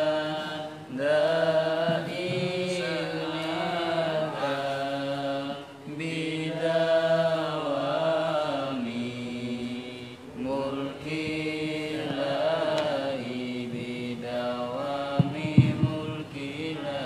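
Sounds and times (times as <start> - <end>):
person chanting melodically: 0.0 - 17.0.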